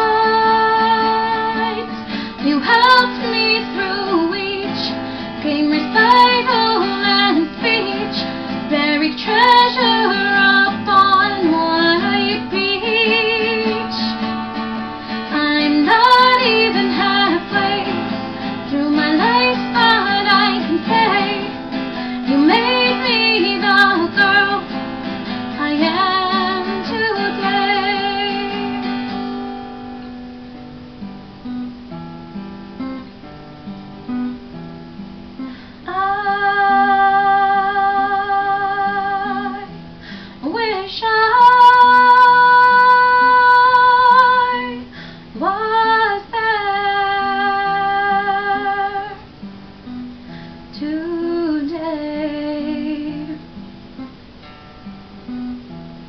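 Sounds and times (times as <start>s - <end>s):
woman singing: 0.0s - 29.5s, 35.8s - 49.4s, 50.7s - 53.6s
acoustic guitar: 0.0s - 56.0s.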